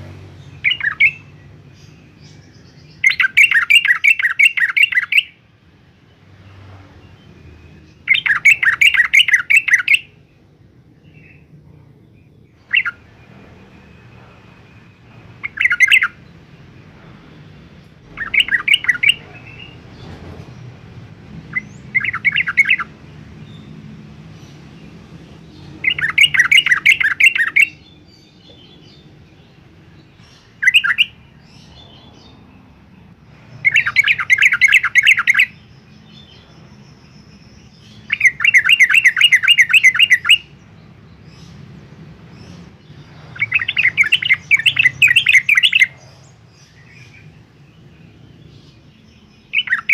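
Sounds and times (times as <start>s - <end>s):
bird singing rapid repeated notes: 0.0s - 49.9s.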